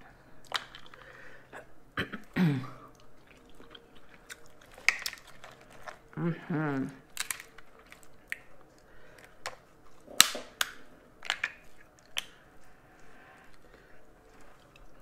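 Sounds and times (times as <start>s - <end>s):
shells cracking by hand: 0.4s - 1.3s, 3.0s - 6.2s, 7.0s - 15.0s.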